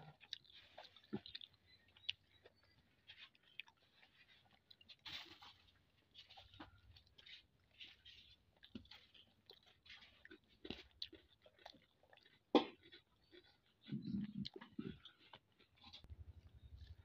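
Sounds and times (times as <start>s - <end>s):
wet chewing and smacking: 0.0s - 17.0s
fingers mixing rice on plate: 0.1s - 17.0s.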